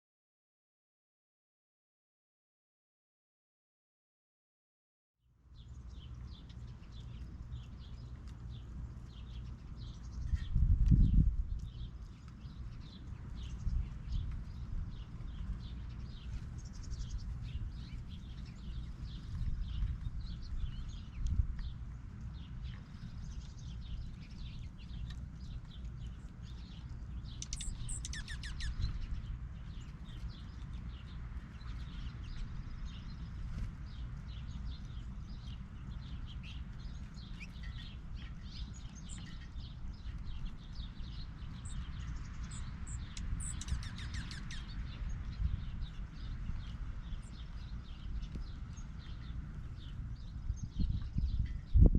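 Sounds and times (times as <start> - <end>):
songbirds chirping: 5.3 - 51.9
steady low rumble: 5.5 - 51.9.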